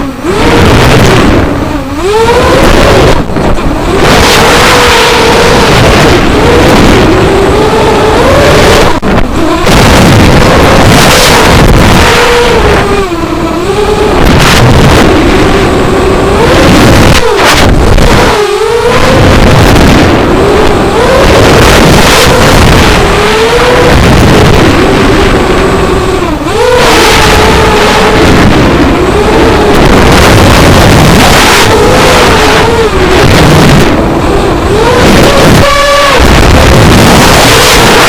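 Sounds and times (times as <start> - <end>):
quadcopter motors whining: 0.0 - 38.0
rushing noise: 0.0 - 38.0.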